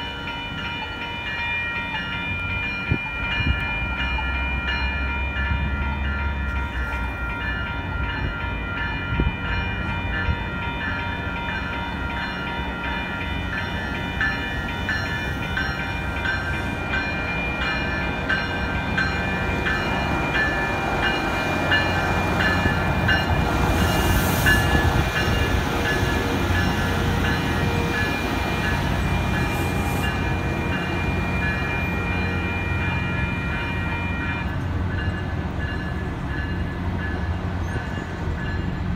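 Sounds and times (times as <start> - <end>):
crossing bell ringing: 0.0 - 38.9
diesel railcar rumbling past: 0.0 - 38.9.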